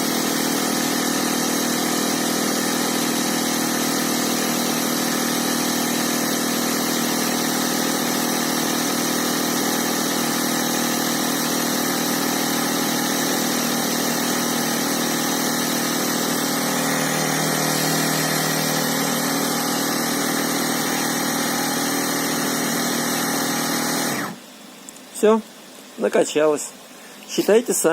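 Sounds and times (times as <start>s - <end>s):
electric air pump running: 0.0s - 24.4s.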